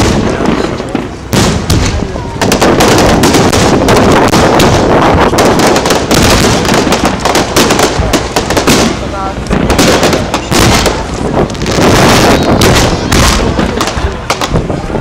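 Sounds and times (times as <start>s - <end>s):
fireworks bangs and crackle: 0.0s - 15.0s.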